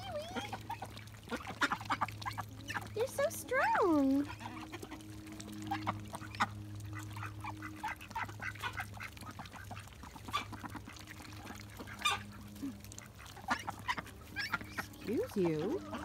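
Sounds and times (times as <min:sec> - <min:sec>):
duck bill splashes and clicks: 0:00.0 - 0:16.0
steady low hum: 0:00.0 - 0:16.0.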